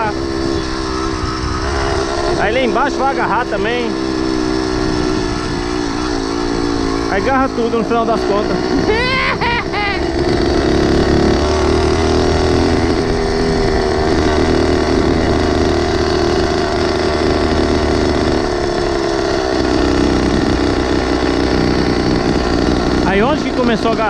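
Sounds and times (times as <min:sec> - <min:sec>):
mini bike engine running: 0:00.0 - 0:24.0.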